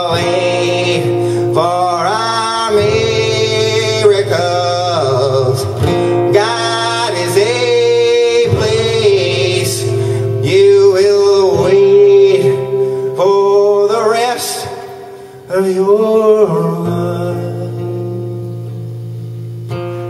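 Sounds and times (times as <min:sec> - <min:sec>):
man singing long notes: 0:00.0 - 0:18.5
acoustic guitar: 0:00.0 - 0:20.0.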